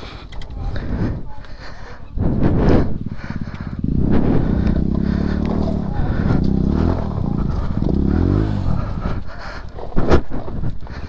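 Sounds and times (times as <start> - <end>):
motorcycle engine revving: 0.6 - 11.0.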